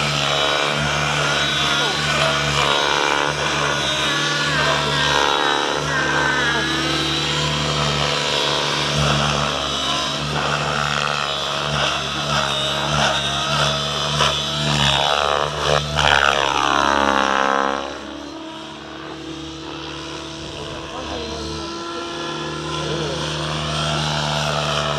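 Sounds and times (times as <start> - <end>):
model helicopter motor and rotor: 0.0 - 24.9.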